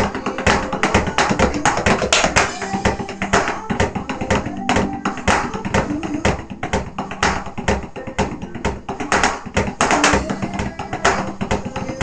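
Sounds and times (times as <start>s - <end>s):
electronic drum pads struck: 0.0s - 11.8s
backing song: 0.0s - 12.0s.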